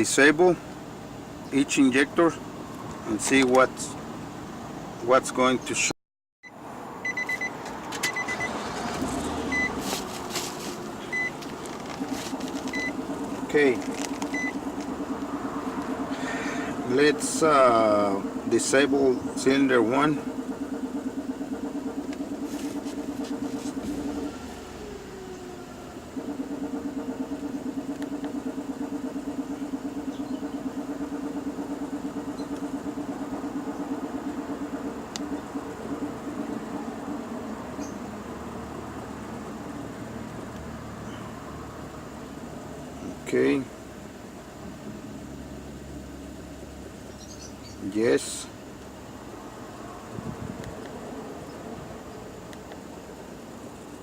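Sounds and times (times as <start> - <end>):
car engine hum with misfire: 0.0 - 54.0.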